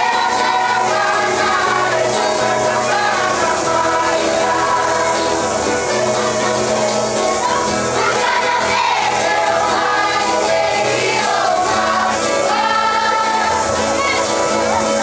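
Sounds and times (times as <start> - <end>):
children singing together: 0.0 - 15.0
guitar accompaniment: 0.0 - 15.0.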